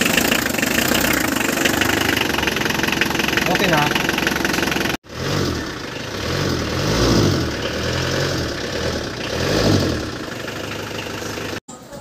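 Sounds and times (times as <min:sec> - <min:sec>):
diesel engine revving: 0:00.0 - 0:11.6.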